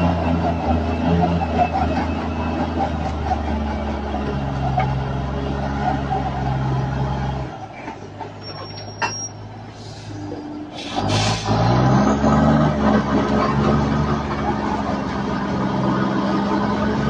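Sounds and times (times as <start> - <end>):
heavy truck engine running: 0.0 - 17.0.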